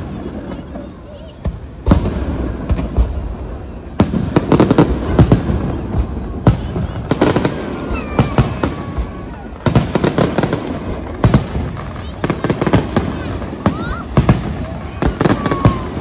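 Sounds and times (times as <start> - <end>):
fireworks bursting with bangs and crackles: 0.0 - 16.0.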